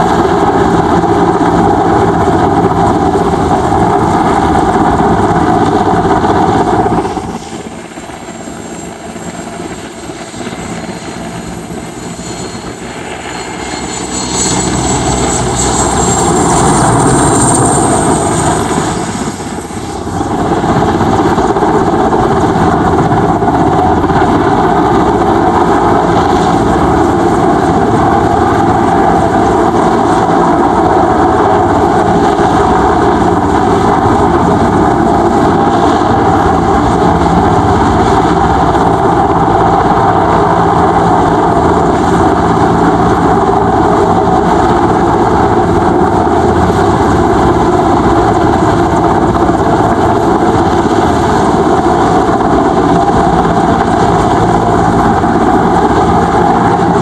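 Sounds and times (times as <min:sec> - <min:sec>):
helicopter rotor hovering: 0:00.0 - 0:57.0
high turbine whine: 0:00.0 - 0:57.0.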